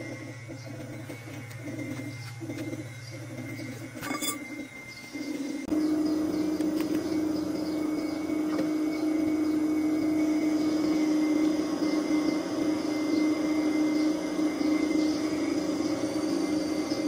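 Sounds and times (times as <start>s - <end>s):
machine droning: 0.0s - 17.0s.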